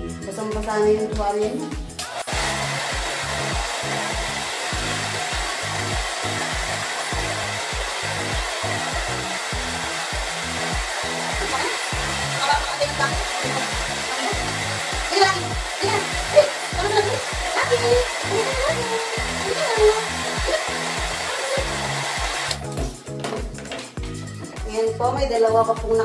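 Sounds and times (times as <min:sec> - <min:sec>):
music with a steady beat: 0:00.0 - 0:26.0
hair dryer blowing: 0:02.0 - 0:23.0.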